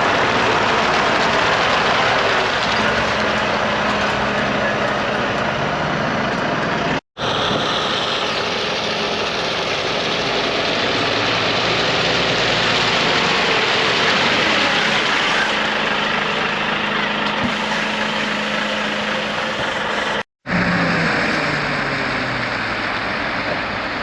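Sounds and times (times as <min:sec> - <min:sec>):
lorry diesel engines running: 0:00.0 - 0:24.0.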